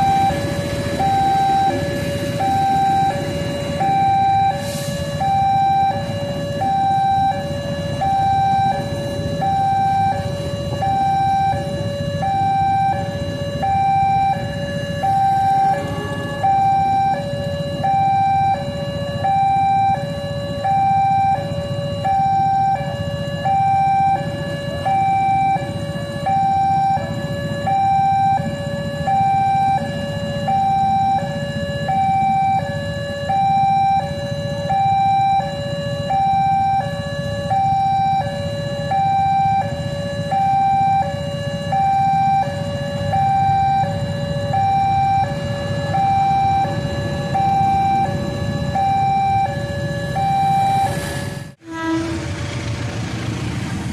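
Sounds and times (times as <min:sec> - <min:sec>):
two-tone crossing alarm: 0:00.0 - 0:52.4.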